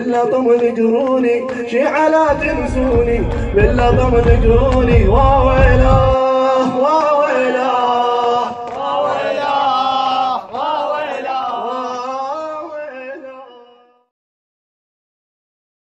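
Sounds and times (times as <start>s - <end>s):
men chanting a lament: 0.0s - 14.1s.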